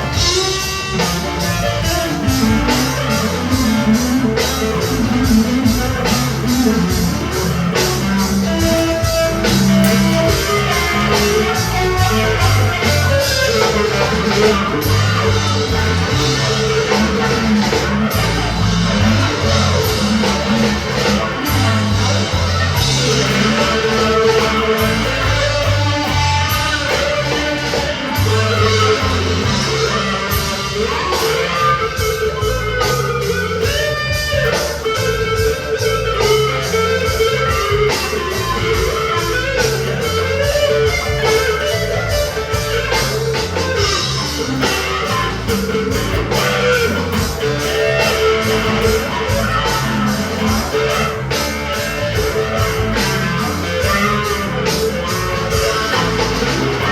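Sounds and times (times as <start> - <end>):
fuzz electric guitar lead: 0.0 - 56.9.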